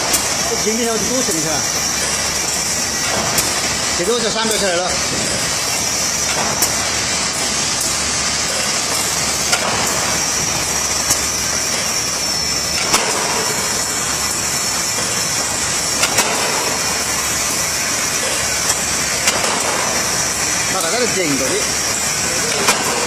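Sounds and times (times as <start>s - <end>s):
machine sharp clicks: 0.0s - 23.0s
welding machine running with hiss: 0.0s - 23.0s.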